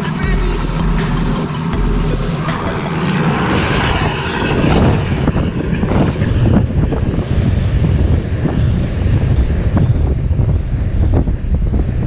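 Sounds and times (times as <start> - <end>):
helicopter engine and rotor: 0.0 - 12.0
wind buffeting microphone: 0.0 - 12.0.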